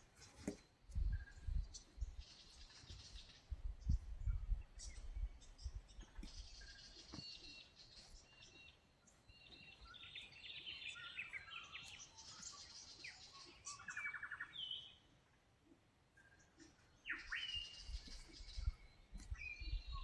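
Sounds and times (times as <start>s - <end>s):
birds chirping and whistling: 0.2s - 15.0s, 16.2s - 20.0s.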